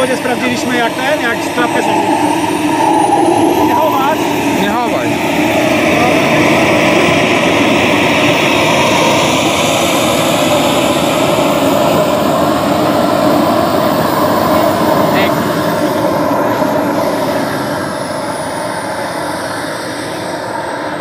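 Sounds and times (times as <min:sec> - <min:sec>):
model jet engine running: 0:00.0 - 0:21.0.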